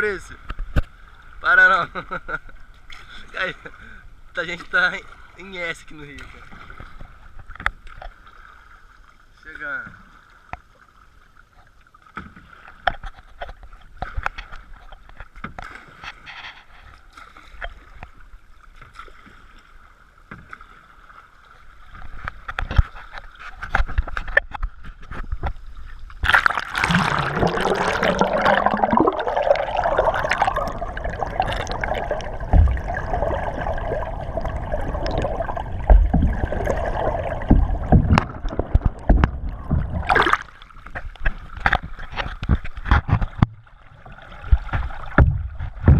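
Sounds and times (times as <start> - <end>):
paddle and water sounds: 0.0 - 45.9.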